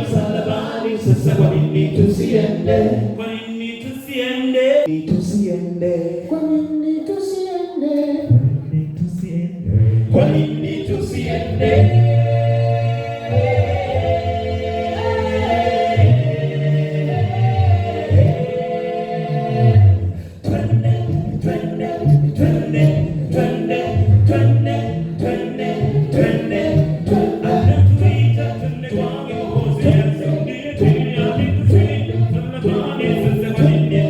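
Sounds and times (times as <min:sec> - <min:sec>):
choir singing a cappella: 0:00.0 - 0:08.3, 0:09.3 - 0:34.0.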